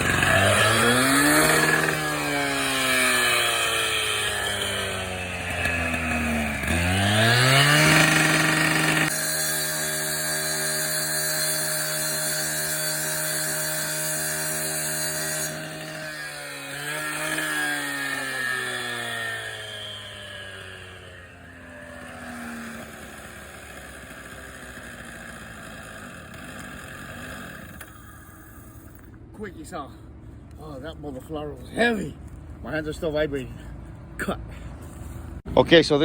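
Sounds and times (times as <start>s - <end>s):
cut-off saw engine running: 0.0s - 29.2s.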